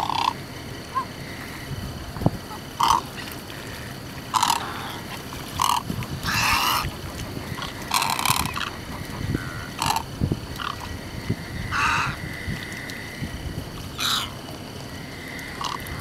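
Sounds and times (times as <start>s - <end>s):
wading birds croaking: 0.0s - 16.0s.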